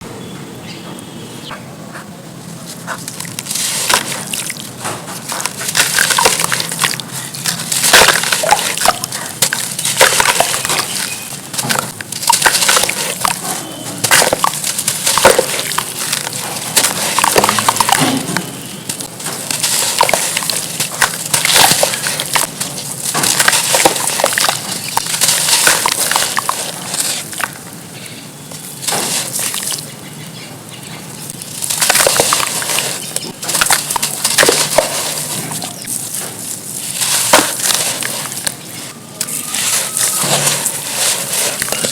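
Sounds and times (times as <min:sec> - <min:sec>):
charcoal crumbling in water: 0:03.1 - 0:27.9, 0:28.6 - 0:30.0, 0:31.2 - 0:41.9.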